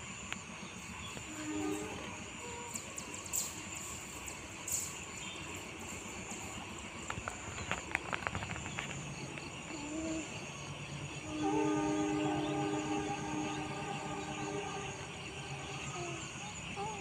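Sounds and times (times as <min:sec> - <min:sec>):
distant diesel locomotive rumble: 0:00.0 - 0:17.0.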